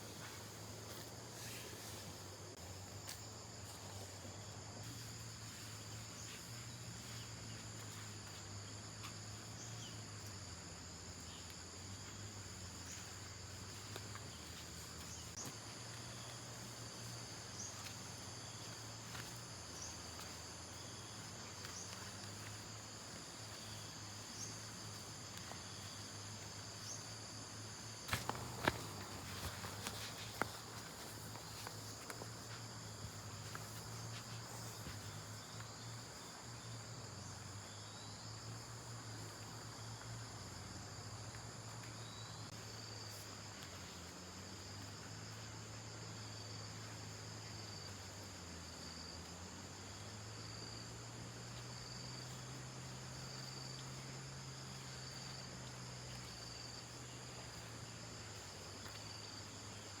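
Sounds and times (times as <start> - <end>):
cricket chirping: 0.0 - 60.0
insects trilling: 0.0 - 60.0.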